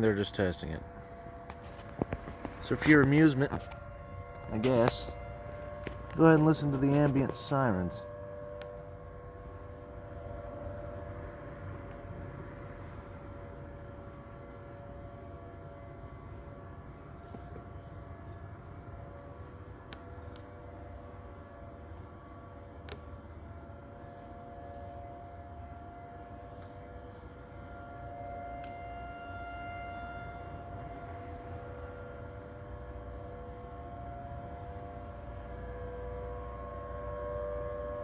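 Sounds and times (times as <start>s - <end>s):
distant warning sirens wailing: 0.0s - 38.0s.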